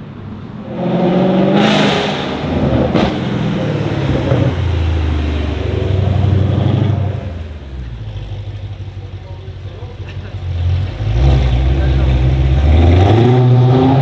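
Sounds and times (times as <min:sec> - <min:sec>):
car engine deep rumble: 0:00.0 - 0:14.0
exhaust crack: 0:00.8 - 0:12.7.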